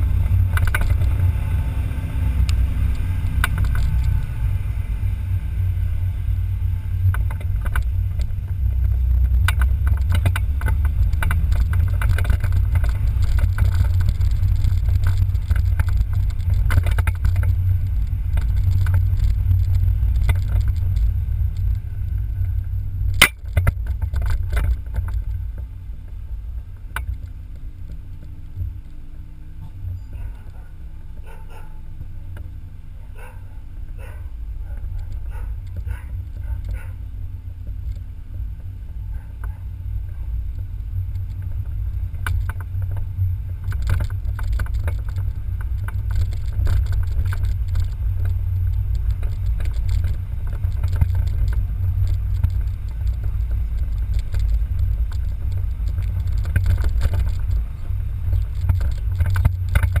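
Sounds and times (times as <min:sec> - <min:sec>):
rattles and clicks: 0:00.0 - 0:01.5, 0:02.2 - 0:04.6, 0:06.7 - 1:00.0
road and wind noise: 0:00.0 - 1:00.0.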